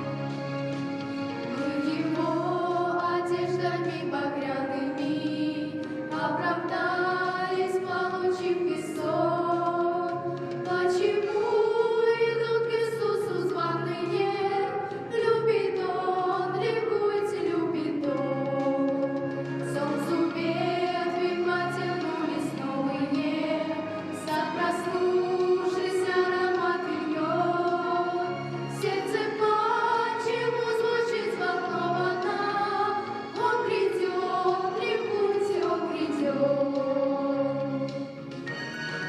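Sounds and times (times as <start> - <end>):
choir singing slowly: 0.0 - 39.0.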